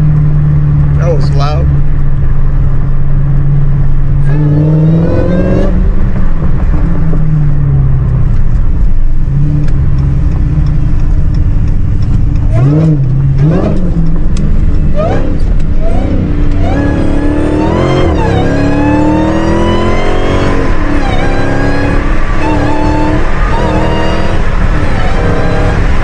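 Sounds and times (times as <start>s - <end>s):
car engine revving: 0.0s - 26.0s
supercharger whine: 0.0s - 26.0s.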